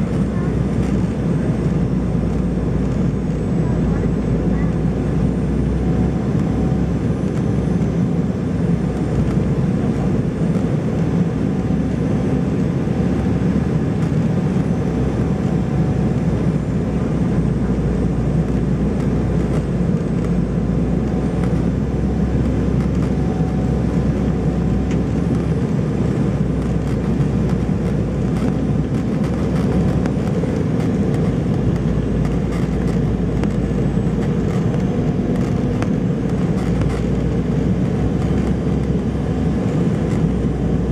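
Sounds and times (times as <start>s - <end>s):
airliner cabin engine rumble: 0.0s - 40.9s
faint steady whine: 0.0s - 40.9s.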